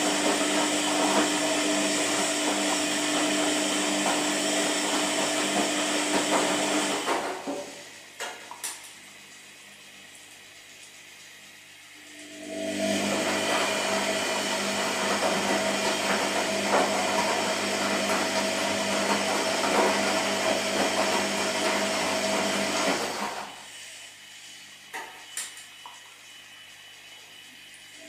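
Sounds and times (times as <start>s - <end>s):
washing machine whining: 0.0s - 28.0s.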